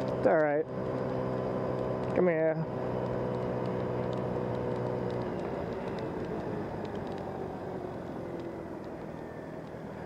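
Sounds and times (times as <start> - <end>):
scooter engine hum: 0.0 - 10.0
wind and road noise: 0.0 - 10.0.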